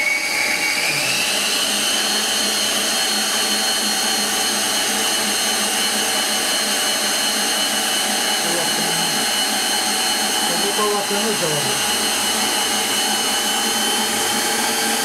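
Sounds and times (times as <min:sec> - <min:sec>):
stand mixer motor whining: 0:00.0 - 0:15.0.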